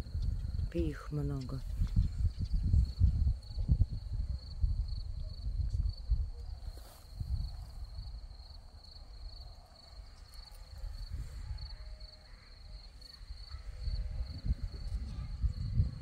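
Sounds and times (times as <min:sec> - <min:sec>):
crickets chirping: 0:00.0 - 0:16.0
wind rumble on microphone: 0:00.0 - 0:16.0.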